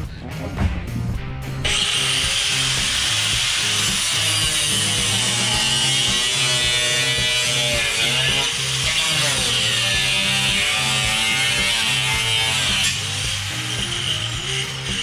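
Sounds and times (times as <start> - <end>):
background music: 0.0 - 15.0
cutting tool whining through panel: 1.6 - 15.0.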